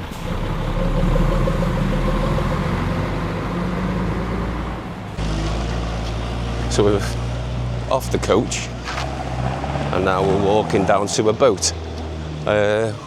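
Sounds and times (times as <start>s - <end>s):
bus engine running: 0.0s - 13.0s
road noise: 0.0s - 13.0s.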